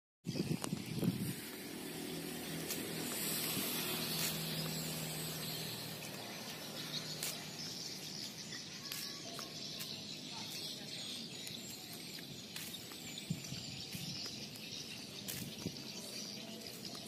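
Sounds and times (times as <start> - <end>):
steady outdoor hiss: 0.3 - 17.0.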